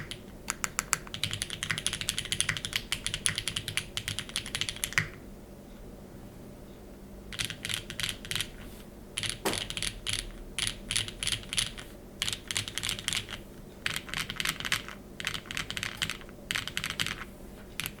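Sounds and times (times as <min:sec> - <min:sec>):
typing on mechanical keyboard: 0:00.0 - 0:05.2, 0:07.3 - 0:08.6, 0:09.2 - 0:18.0.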